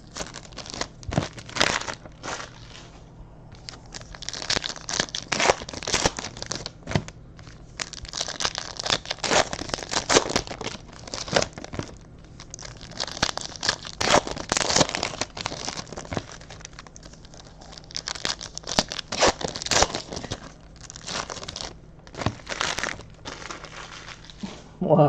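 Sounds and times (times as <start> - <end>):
card pack wrappers crinkling: 0.0 - 3.0, 3.6 - 24.6.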